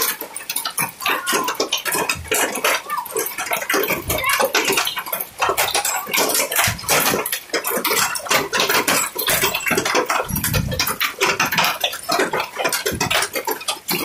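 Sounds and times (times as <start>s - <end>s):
hail clattering on car: 0.0s - 14.0s.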